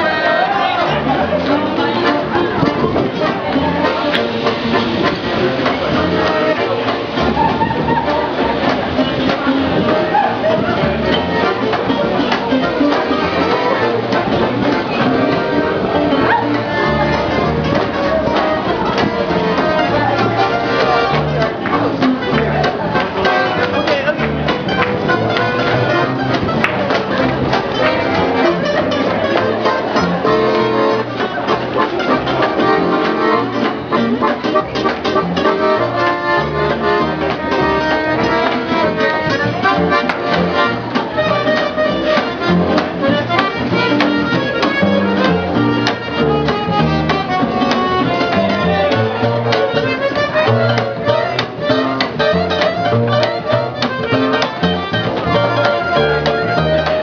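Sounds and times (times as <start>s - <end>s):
acoustic swing band playing: 0.0s - 57.0s.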